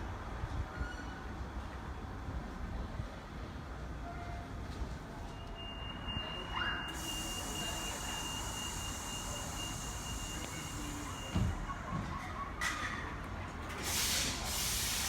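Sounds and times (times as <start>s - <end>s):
train rumbling and hissing: 0.0s - 15.0s.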